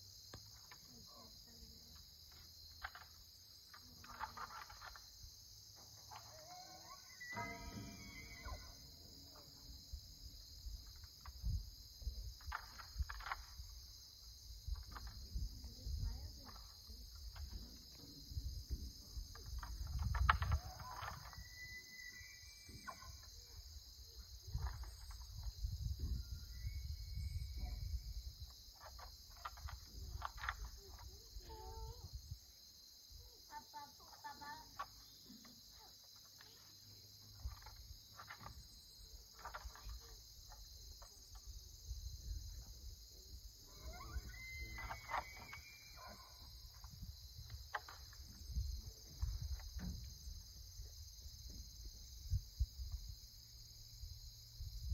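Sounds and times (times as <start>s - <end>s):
crickets chirping: 0.0s - 54.9s
high insect chorus: 0.0s - 54.9s.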